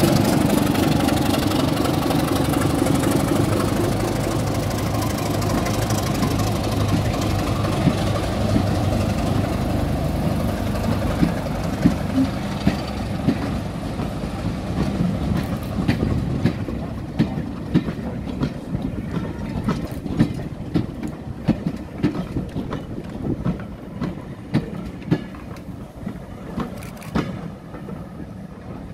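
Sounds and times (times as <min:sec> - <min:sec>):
train low rumble: 0:00.0 - 0:28.9
train wheels clacking over joints: 0:00.0 - 0:28.9.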